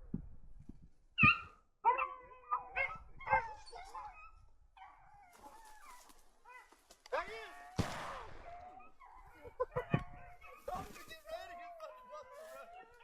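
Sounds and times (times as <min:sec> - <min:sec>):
dogs baying and yelping: 0:01.2 - 0:07.8, 0:08.4 - 0:13.0.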